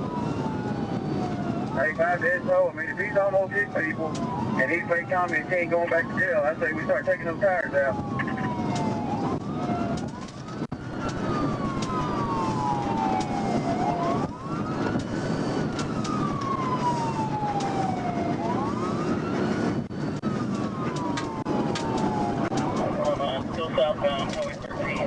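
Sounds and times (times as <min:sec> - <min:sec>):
police siren wailing: 0:00.0 - 0:25.0.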